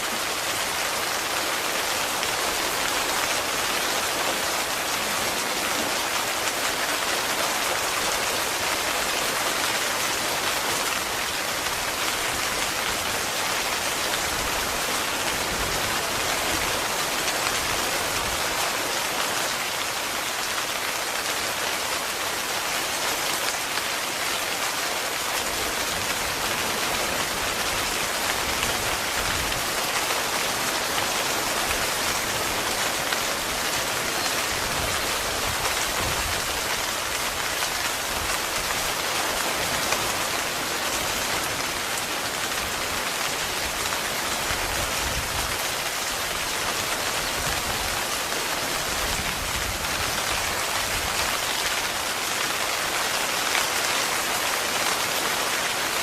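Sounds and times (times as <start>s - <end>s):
heavy rain on a tent: 0.0s - 56.0s.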